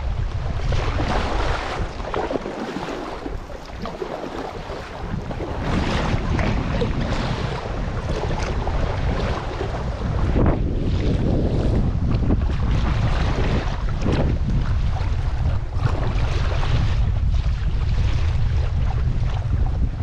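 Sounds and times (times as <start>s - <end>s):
lake water lapping and splashing: 0.0s - 20.0s
wind buffeting microphone: 0.0s - 20.0s.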